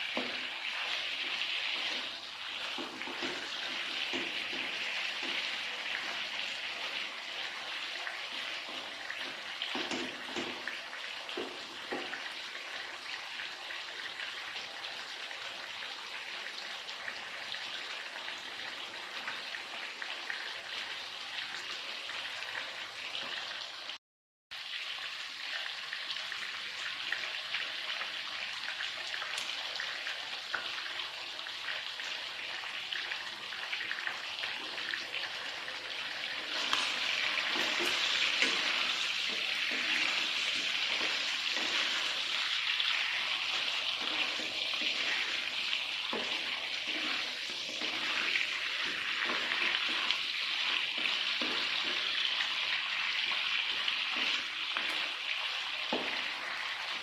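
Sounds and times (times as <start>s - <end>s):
food sizzling in a pan: 0.0s - 24.0s, 24.6s - 57.0s.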